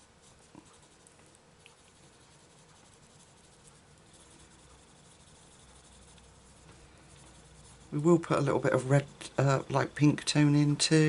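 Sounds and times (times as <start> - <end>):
pencil scratching on paper: 0.0 - 10.5
steady low hiss: 0.0 - 11.0.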